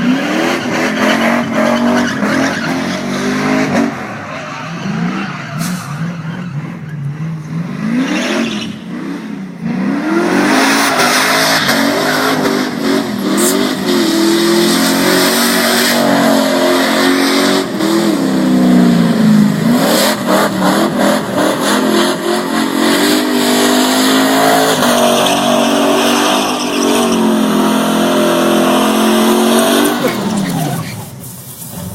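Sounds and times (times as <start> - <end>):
tires spinning on pavement: 0.0 - 31.9
truck engine revving: 0.0 - 31.9.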